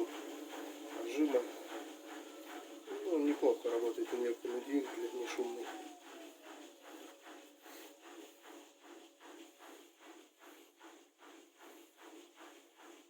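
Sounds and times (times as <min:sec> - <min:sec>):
faint motor whine: 0:00.0 - 0:11.0
washing machine drum swishing: 0:00.0 - 0:13.0.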